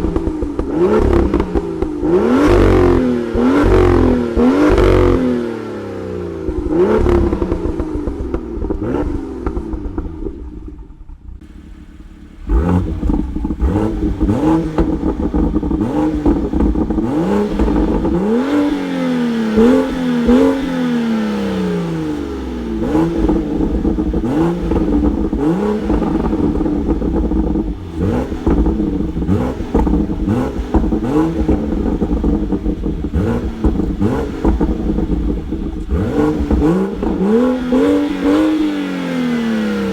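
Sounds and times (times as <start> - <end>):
exhaust pops and crackles: 0.0 - 5.2, 6.5 - 20.9, 21.6 - 38.8
car engine revving: 0.0 - 39.9.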